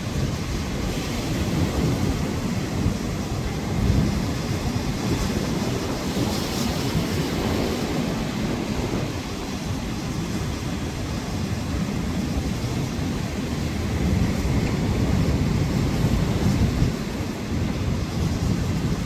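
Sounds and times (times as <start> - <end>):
stormy surf: 0.0 - 19.0
wind buffeting microphone: 0.0 - 19.0.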